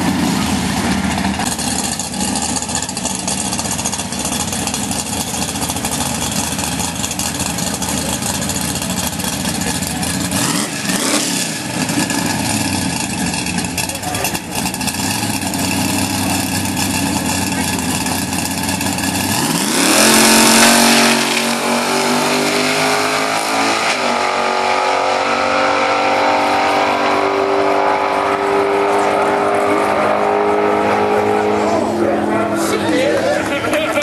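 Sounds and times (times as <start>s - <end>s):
drag car engine revving: 0.0s - 34.0s.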